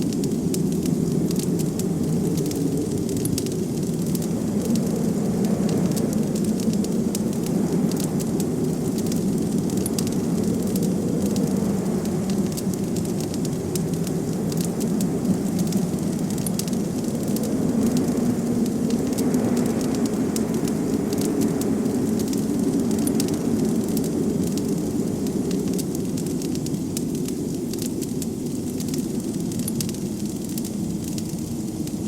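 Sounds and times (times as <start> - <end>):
blizzard wind rumble: 0.0 - 32.0
wood fire crackling: 0.0 - 32.0.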